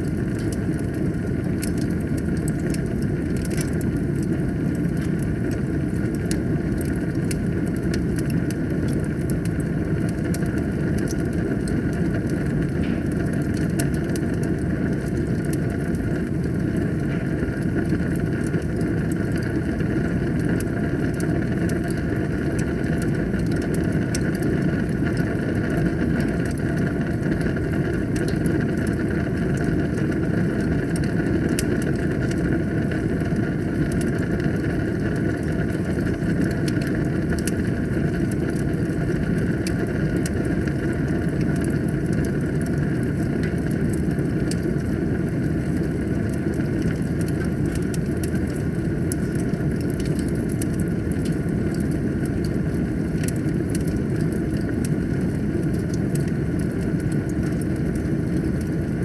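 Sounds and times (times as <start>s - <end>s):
fire crackling and popping: 0.0s - 59.0s
wood fire burning: 0.0s - 59.0s.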